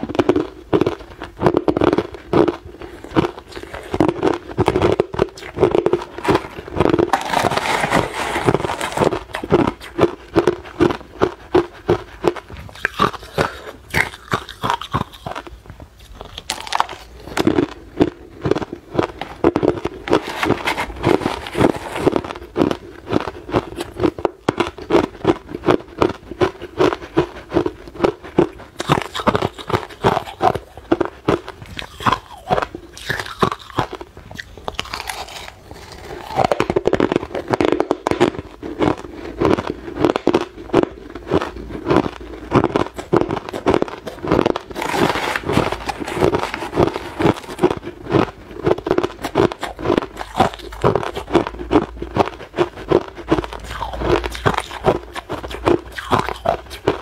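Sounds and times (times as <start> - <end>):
ice crunching while chewed: 0.0 - 57.0.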